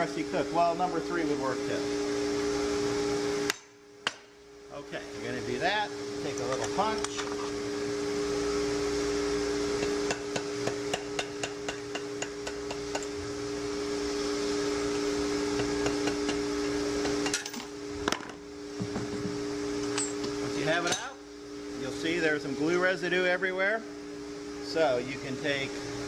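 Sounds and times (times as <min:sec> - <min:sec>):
steady two-tone hum: 0:00.0 - 0:26.0.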